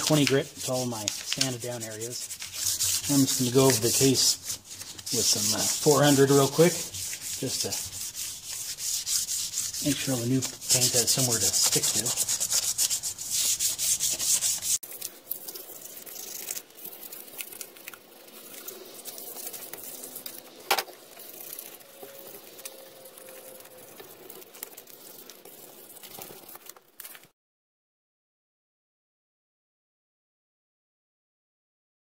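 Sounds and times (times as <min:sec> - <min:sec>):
sandpaper rubbing painted metal: 0:00.0 - 0:26.7.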